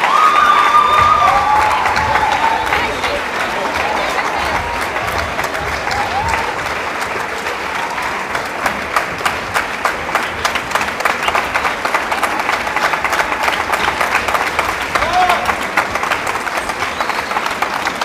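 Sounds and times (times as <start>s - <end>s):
large audience applauding: 0.0s - 18.0s.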